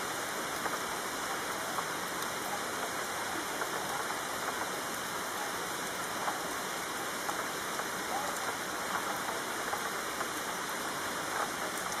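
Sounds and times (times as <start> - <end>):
raindrops ticking: 0.0 - 12.0
steady rain hiss: 0.0 - 12.0.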